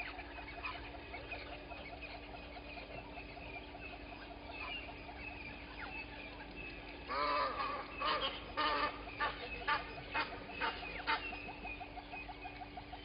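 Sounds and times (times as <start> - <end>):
large bird harsh calls: 0.0 - 13.0
small birds chirping: 0.0 - 13.0.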